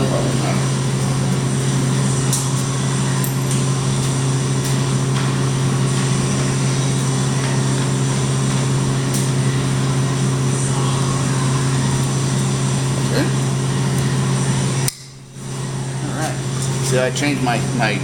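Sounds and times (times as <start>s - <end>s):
electrical hum: 0.0s - 18.0s
welding arc sizzling: 0.0s - 18.0s.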